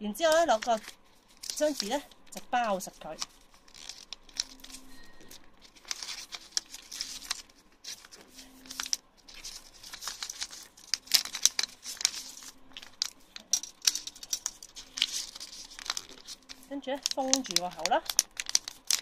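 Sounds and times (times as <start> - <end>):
paper folding and crinkling: 0.1 - 19.0.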